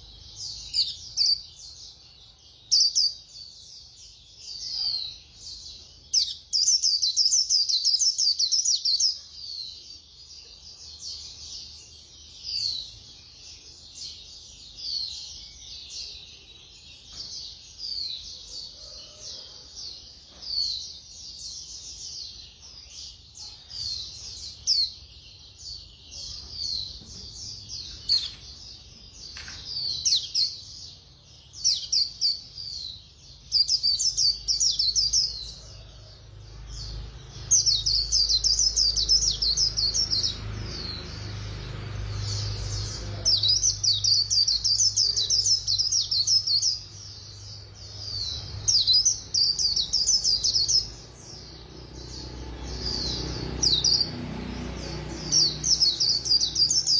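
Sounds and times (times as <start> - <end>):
bird twittering song: 0.0 - 56.9.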